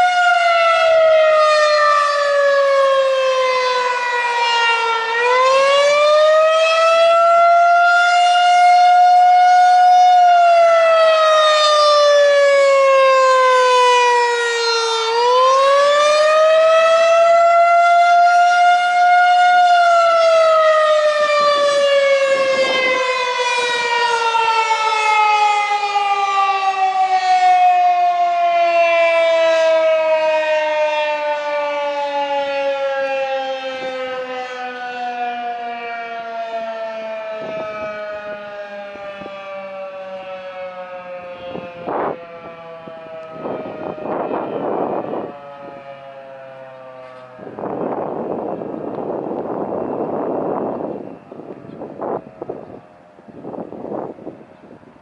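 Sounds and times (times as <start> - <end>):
wavering civil defense siren: 0.0 - 55.0.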